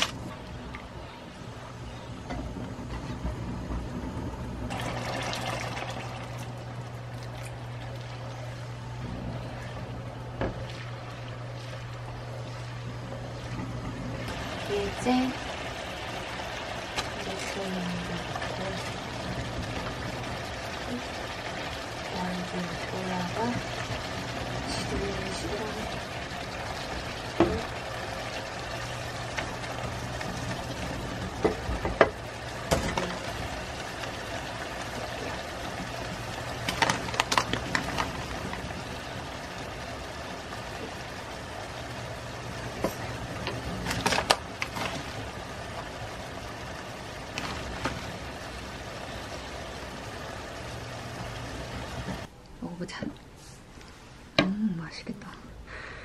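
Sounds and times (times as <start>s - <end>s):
steady low hum: 0.0s - 56.0s
sauce simmering in a pan: 4.7s - 52.3s.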